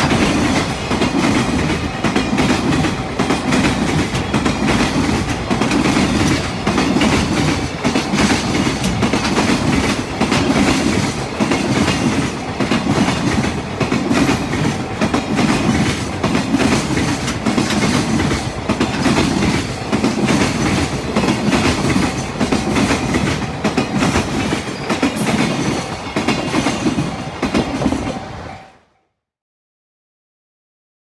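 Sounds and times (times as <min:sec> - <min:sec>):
train wheels clattering over joints: 0:00.0 - 0:28.5.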